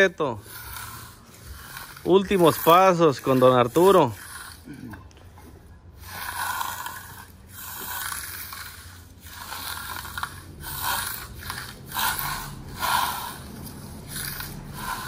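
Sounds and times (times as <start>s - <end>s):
trowel scraping concrete: 0.0s - 4.9s, 6.0s - 15.0s.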